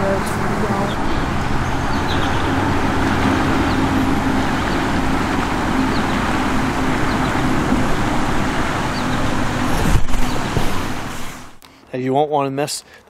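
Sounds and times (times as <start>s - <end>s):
river water rushing over rocks: 0.0s - 11.6s.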